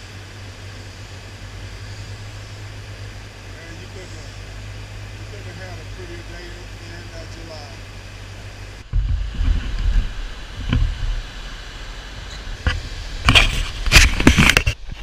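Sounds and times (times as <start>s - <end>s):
moving water: 0.0s - 15.0s
wind on microphone: 0.0s - 15.0s.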